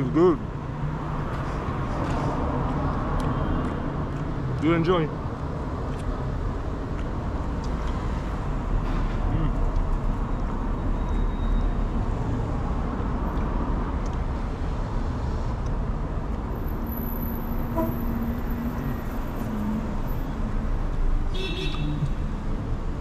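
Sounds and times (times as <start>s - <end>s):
passing cars rumbling: 0.0s - 23.0s.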